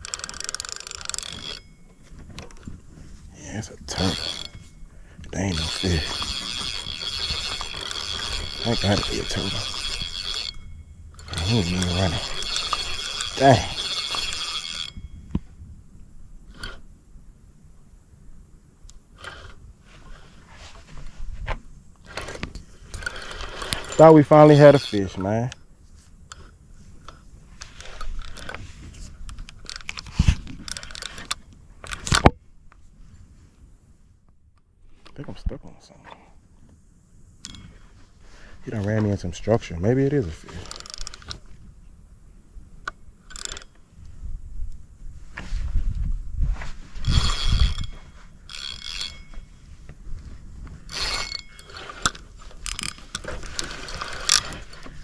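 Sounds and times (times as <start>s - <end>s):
fishing rod and reel rustling: 0.0s - 15.6s, 16.4s - 16.9s, 18.9s - 33.7s, 34.8s - 42.0s, 42.6s - 55.0s.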